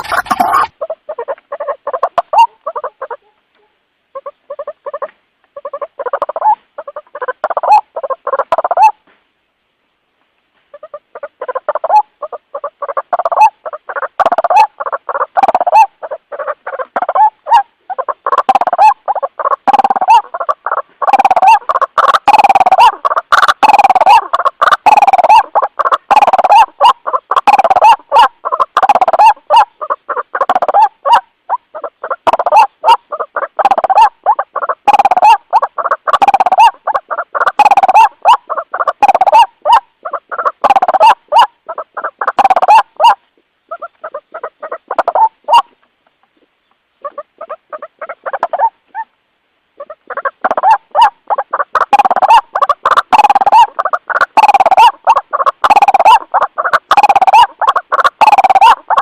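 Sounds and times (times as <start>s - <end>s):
waterhen calling harshly: 0.0s - 3.3s, 4.1s - 9.0s, 10.7s - 45.8s, 46.4s - 49.2s, 49.8s - 59.0s.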